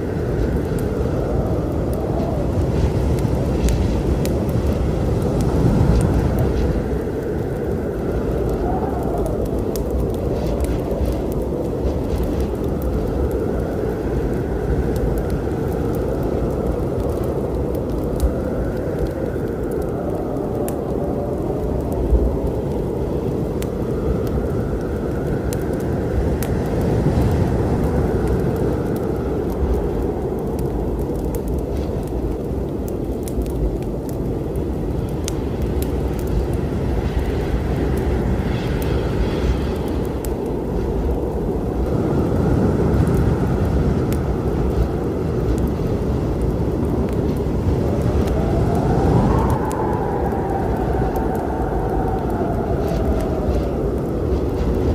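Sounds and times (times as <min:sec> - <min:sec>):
storm wind howling: 0:00.0 - 0:54.9
wood fire crackling: 0:00.0 - 0:54.9.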